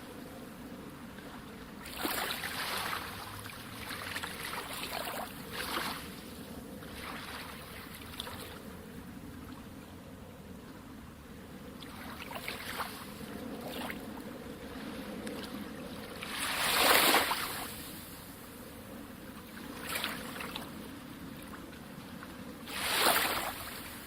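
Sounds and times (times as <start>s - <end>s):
sea waves breaking on shore: 0.0s - 9.8s, 10.4s - 24.0s.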